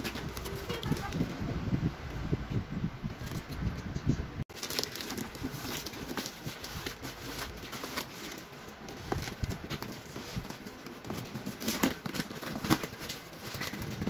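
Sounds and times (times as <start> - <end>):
cardboard rustling and creaking: 0.0 - 1.4, 3.1 - 3.7, 4.5 - 14.0.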